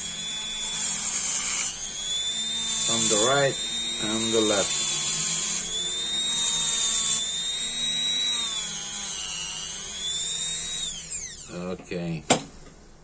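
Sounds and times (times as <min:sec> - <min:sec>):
rotary tool whining: 0:00.0 - 0:11.9.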